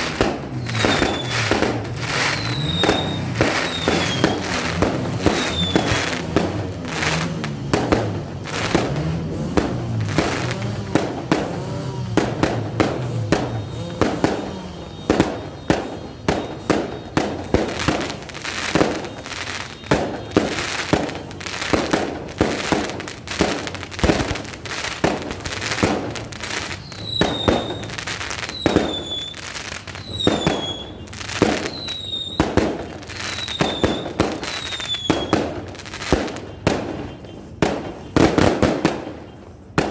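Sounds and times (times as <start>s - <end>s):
fireworks bangs and pops: 0.0s - 39.9s
high firework whistles: 0.0s - 39.9s.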